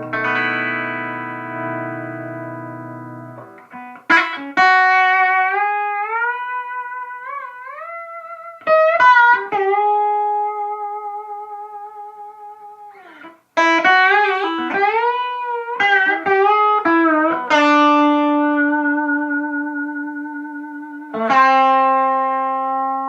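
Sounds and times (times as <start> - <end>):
electric guitar melody: 0.0 - 23.0.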